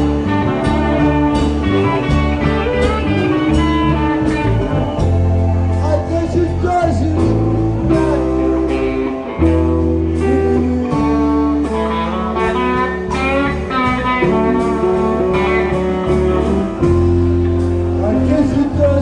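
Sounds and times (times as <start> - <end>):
bass notes: 0.0 - 19.0
drums: 0.0 - 19.0
electric guitar with bent notes: 0.0 - 19.0.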